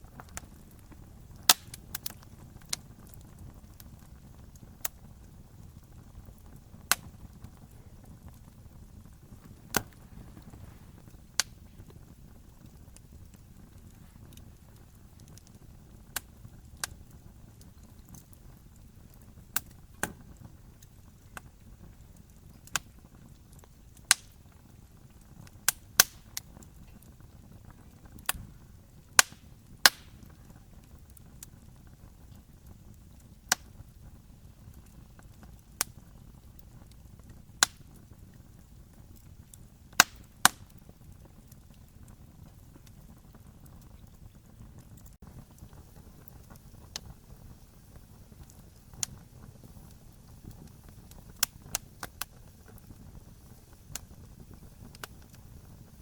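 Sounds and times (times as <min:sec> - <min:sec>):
campfire crackling and popping: 0:00.0 - 0:56.0
low rush of burning: 0:00.0 - 0:56.0.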